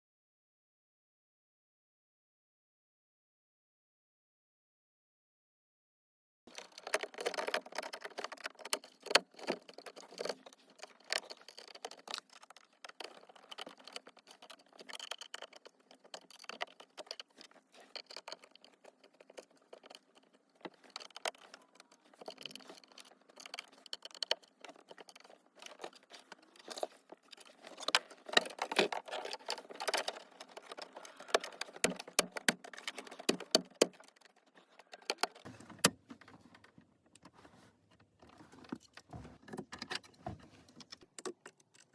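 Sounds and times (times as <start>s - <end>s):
plastic trim clicks and rattles: 6.5s - 37.4s, 38.0s - 41.9s.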